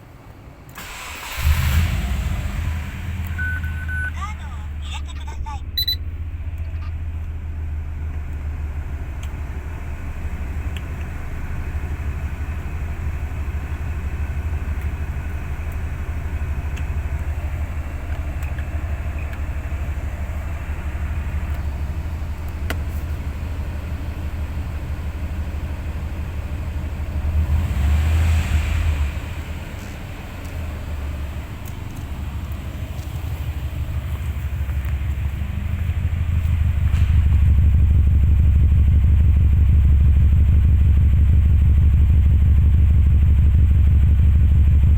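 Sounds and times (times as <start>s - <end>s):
car engine running deep note: 1.4s - 44.9s.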